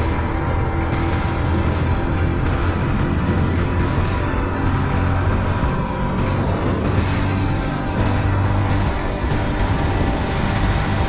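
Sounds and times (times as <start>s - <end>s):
motorcycle engine drone: 0.0s - 11.0s
road noise rushing: 0.0s - 11.0s.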